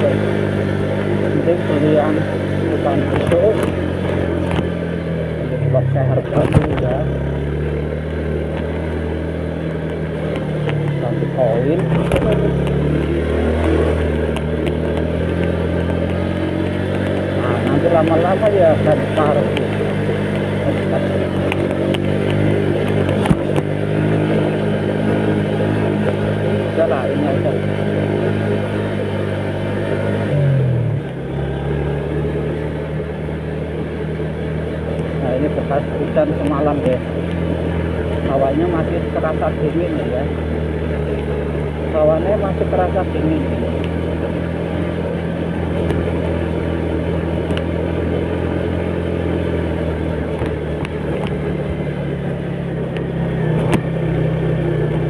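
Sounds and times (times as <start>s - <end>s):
small motorcycle engine running: 0.0s - 55.0s
tyre and road noise: 0.0s - 55.0s.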